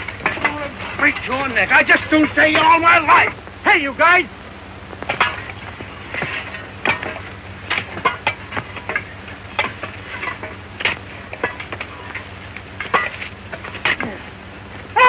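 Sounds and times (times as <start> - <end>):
low soundtrack hum: 0.0 - 15.0.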